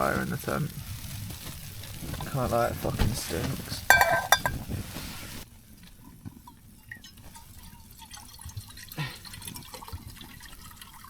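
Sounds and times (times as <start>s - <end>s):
water dripping in a pan: 0.0s - 4.9s, 5.6s - 11.0s.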